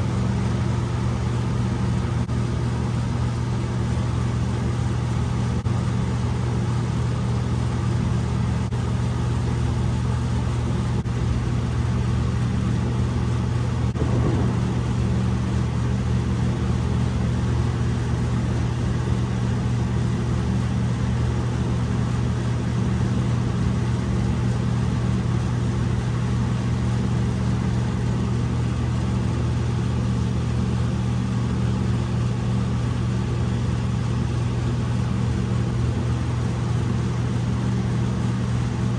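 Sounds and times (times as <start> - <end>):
low motor hum: 0.0 - 38.9.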